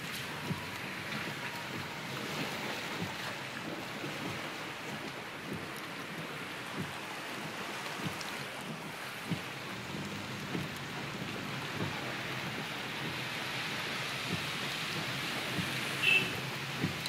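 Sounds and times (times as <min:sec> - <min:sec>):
floodwater washing against car: 0:00.0 - 0:17.0
faint low knocks: 0:00.3 - 0:13.4, 0:14.2 - 0:17.0.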